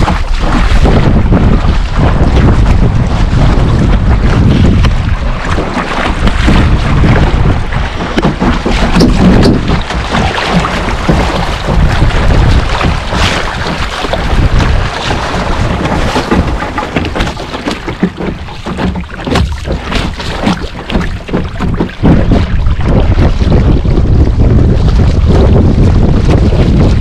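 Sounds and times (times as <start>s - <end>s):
water splashing along hull: 0.0s - 27.0s
wind buffeting microphone: 0.0s - 27.0s.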